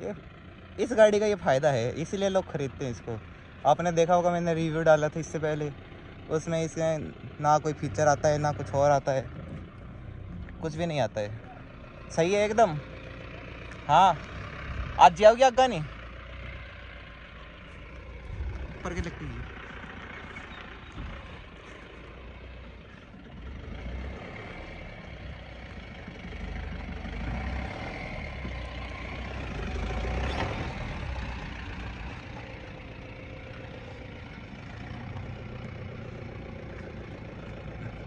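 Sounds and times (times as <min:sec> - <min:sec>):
diesel truck engine at low speed: 0:00.0 - 0:38.0.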